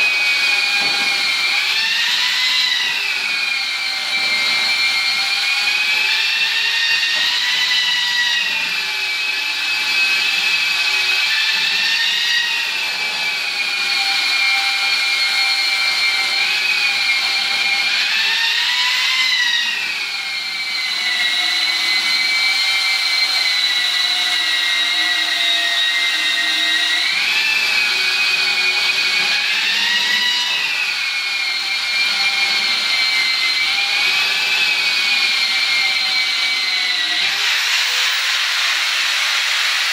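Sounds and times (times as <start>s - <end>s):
electric drywall sander whine: 0.0s - 39.9s.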